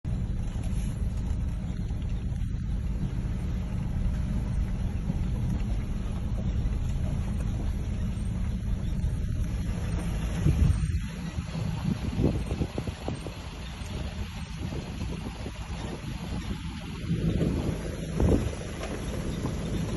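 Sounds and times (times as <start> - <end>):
vehicle rumbling: 0.0 - 19.9.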